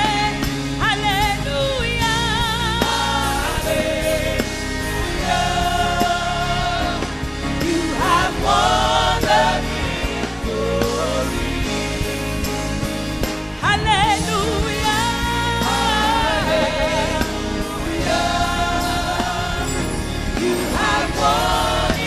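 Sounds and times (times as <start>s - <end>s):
full band accompaniment: 0.0s - 22.0s
voices singing gospel: 0.0s - 22.0s.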